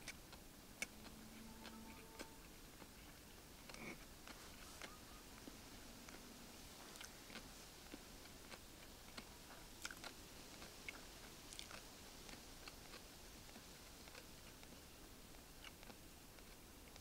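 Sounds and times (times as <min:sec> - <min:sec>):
close chewing: 0:00.0 - 0:17.0
soft steady hiss: 0:00.0 - 0:17.0.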